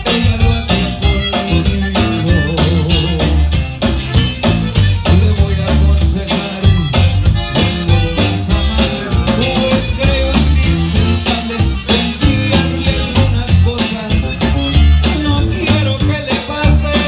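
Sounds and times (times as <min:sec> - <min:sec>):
button accordion: 0:00.0 - 0:17.0
drum kit: 0:00.0 - 0:17.0
electric bass: 0:00.0 - 0:17.0
strummed guitar: 0:00.0 - 0:17.0.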